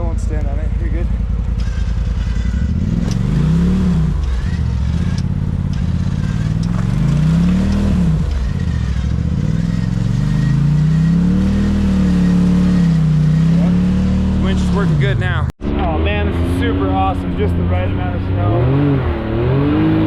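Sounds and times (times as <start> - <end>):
utility vehicle engine revving: 0.0 - 20.0.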